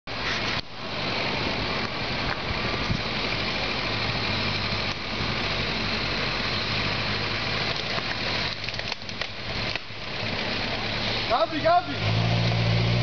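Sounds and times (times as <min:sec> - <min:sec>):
engine running at low revs: 0:00.1 - 0:13.0.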